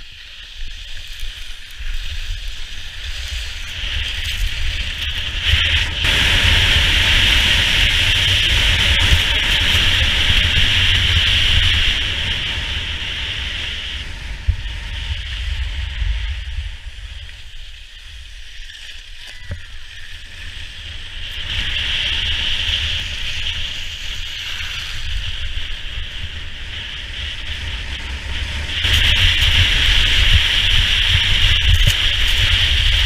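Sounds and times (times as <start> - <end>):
skis scraping over snow: 0.0 - 33.0
wind buffeting microphone: 1.4 - 33.0.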